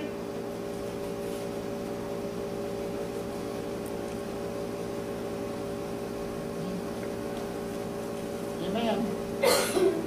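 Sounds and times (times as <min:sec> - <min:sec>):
room hum and hiss: 0:00.0 - 0:10.0.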